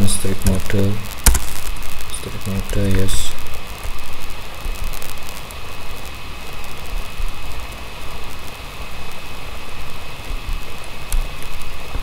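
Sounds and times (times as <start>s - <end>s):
faint high whine: 0.0s - 12.0s
steady hiss: 0.0s - 12.0s.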